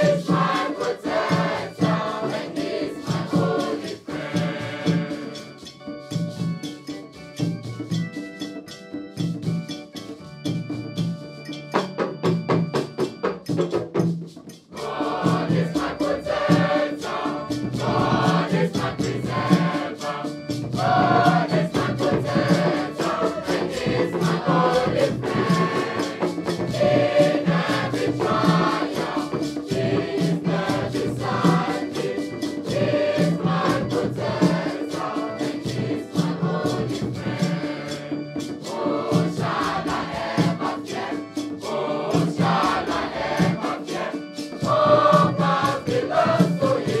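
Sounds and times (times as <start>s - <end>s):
mixed choir singing: 0.0s - 5.7s, 14.8s - 47.0s
rattle percussion: 0.0s - 47.0s
steady instrumental tones: 0.0s - 47.0s.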